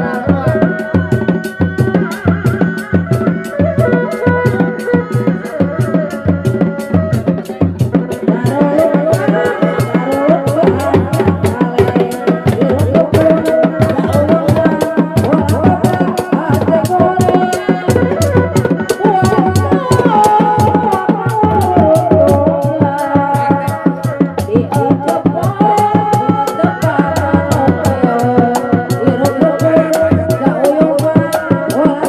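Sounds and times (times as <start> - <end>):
drum ensemble beating: 0.0 - 32.0.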